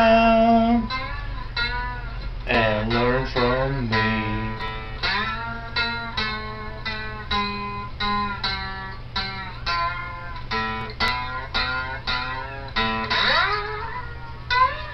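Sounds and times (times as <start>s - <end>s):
low steady hum: 0.0s - 14.9s
slide string instrument plucked: 0.0s - 14.9s.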